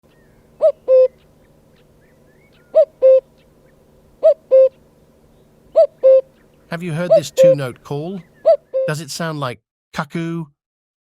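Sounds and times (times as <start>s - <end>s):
cuckoo calling: 0.0s - 9.1s
faint bird chirps: 0.1s - 9.0s.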